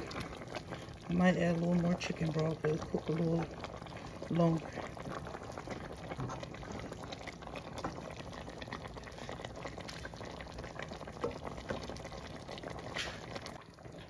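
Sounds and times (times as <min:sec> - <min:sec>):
broth boiling in a pot: 0:00.0 - 0:14.0.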